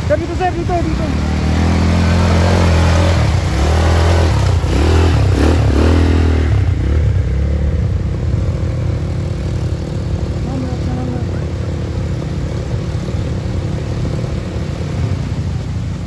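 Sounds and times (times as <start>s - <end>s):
small vehicle engine running: 0.0s - 16.0s.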